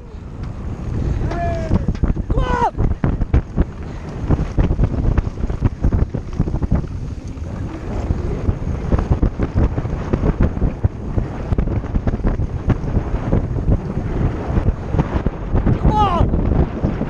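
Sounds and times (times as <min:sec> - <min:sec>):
wind rushing over microphone: 0:00.0 - 0:17.0
bike clattering over rough ground: 0:00.3 - 0:15.1.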